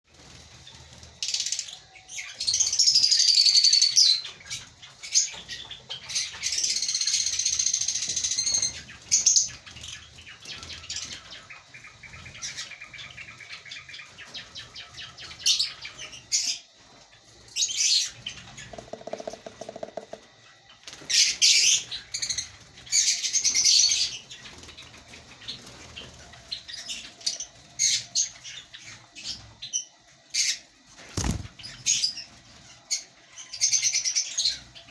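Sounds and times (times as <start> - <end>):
lovebirds chirping and screeching: 0.2 - 34.9.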